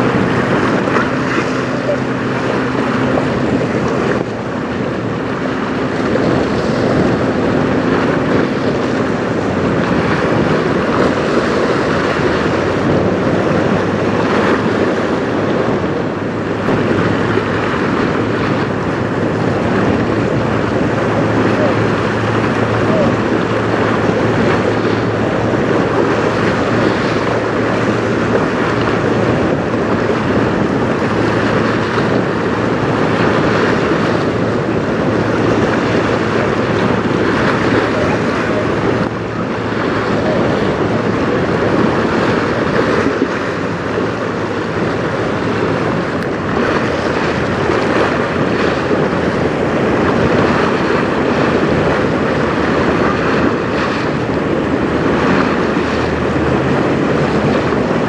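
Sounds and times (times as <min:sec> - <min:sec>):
choppy river water: 0:00.0 - 0:58.0
wind buffeting microphone: 0:00.0 - 0:58.0.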